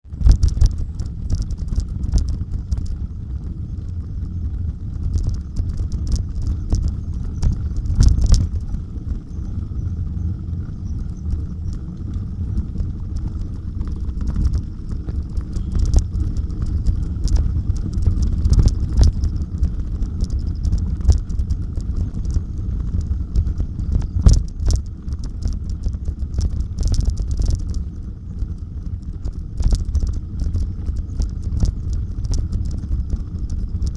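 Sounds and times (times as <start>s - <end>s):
bike rattling and clicking: 0.0s - 33.9s
low rumble of wind and ground: 0.0s - 33.9s.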